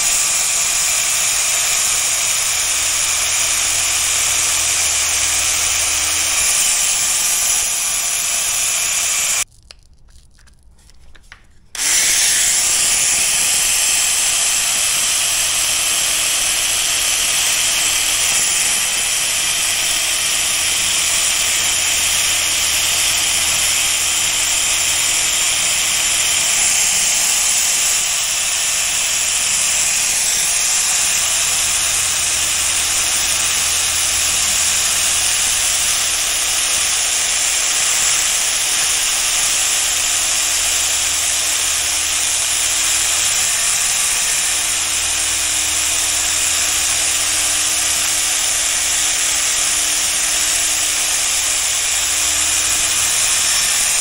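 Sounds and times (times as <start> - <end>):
abrasive tool grinding steel: 0.0 - 9.5, 11.6 - 54.0.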